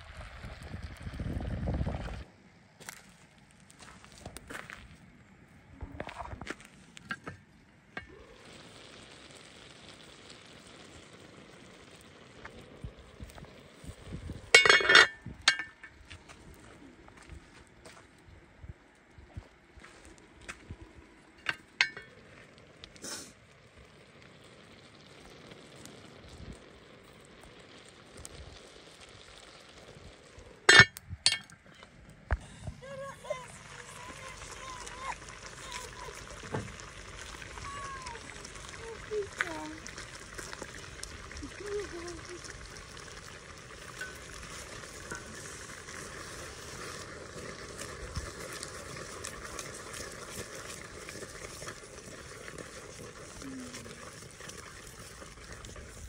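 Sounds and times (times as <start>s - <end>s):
food simmering and sizzling in pot: 0.0s - 56.0s
wood fire crackling: 0.0s - 56.0s.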